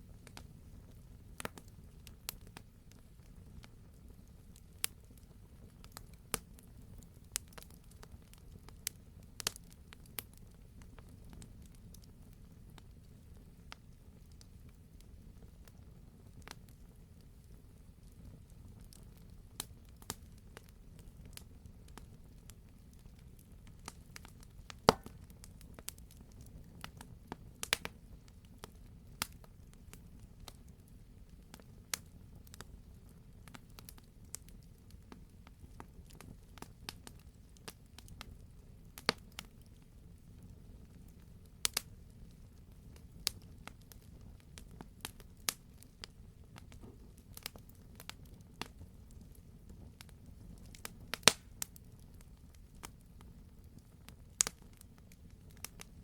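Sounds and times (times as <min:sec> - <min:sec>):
fire rumbling: 0:00.0 - 0:56.0
wood fire crackling and popping: 0:00.0 - 0:56.0.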